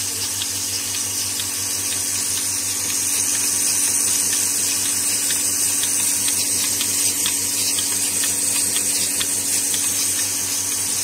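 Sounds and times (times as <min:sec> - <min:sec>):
vacuum pump humming: 0:00.0 - 0:11.0.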